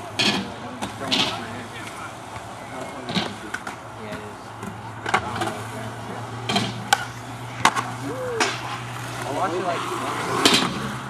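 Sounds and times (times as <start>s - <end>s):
skateboard clacks: 0.0s - 11.0s
skateboard rolling on concrete: 0.0s - 11.0s.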